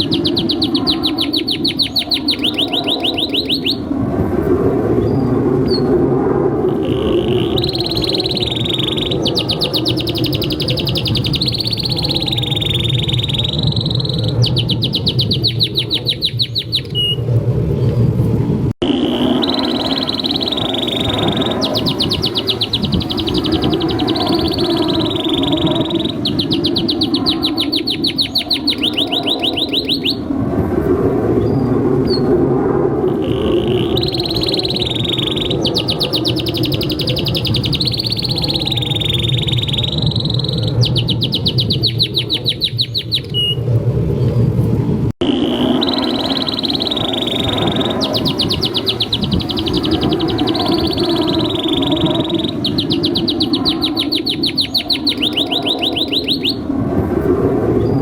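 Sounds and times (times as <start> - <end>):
canary singing trills: 0.0 - 3.9, 6.7 - 17.2, 18.8 - 30.3, 33.2 - 43.6, 45.2 - 56.6.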